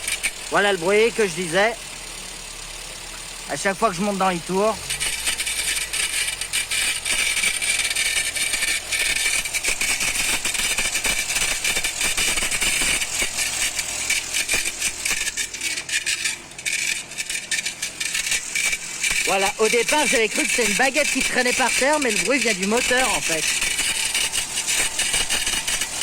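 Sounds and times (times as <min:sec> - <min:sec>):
car engine running: 0:00.0 - 0:26.0
rapid metallic engine rattle: 0:00.0 - 0:26.0.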